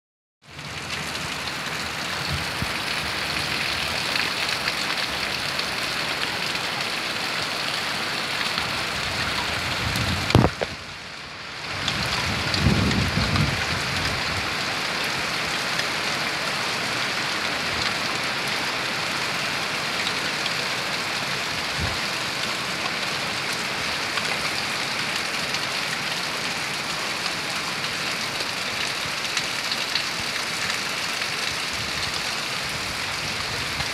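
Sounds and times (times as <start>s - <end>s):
rain on leaves and roof: 0.4s - 33.9s.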